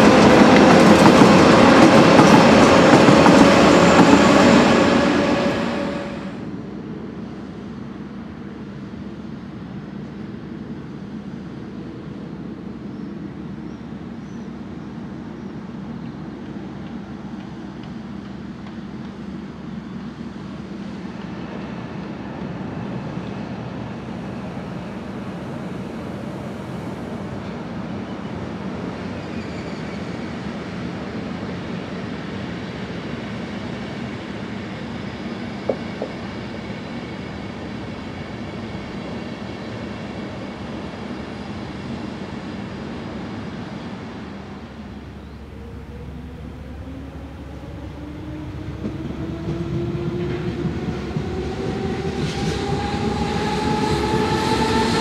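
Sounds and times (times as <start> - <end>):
train wheels rumbling on rails: 0.0 - 7.6, 10.7 - 55.0.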